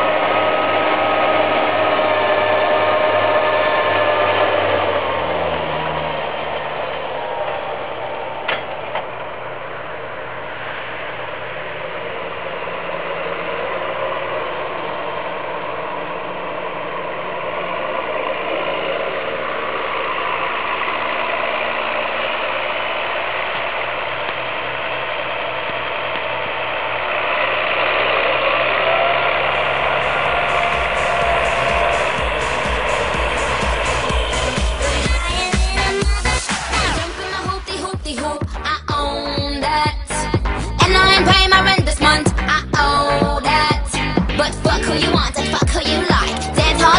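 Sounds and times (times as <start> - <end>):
harrow gears and tines clattering: 0.0 - 46.9
tractor diesel engine under load: 0.0 - 46.9.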